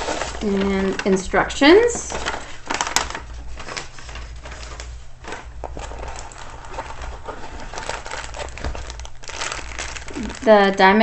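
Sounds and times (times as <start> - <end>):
plastic and paper packaging crinkling: 0.0 - 11.0.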